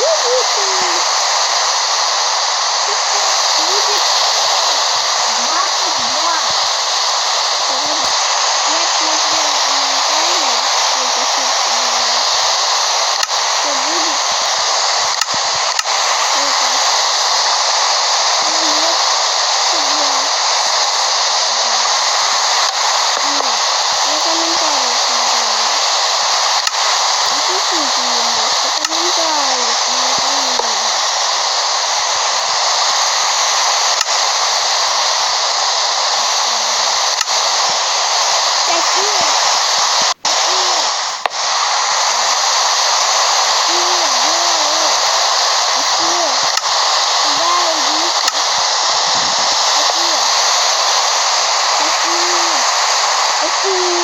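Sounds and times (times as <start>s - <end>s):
faint voices: 0.0s - 32.7s, 35.8s - 50.6s, 51.6s - 54.0s
steady rushing hiss: 0.0s - 54.0s.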